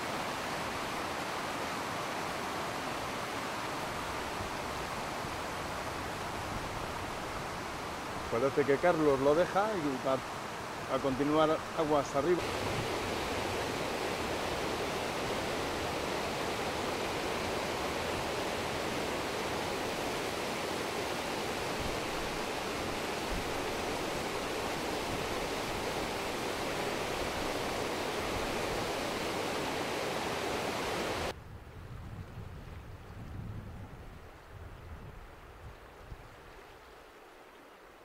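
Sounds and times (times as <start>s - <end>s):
river water rushing: 0.0s - 31.4s, 35.4s - 38.0s.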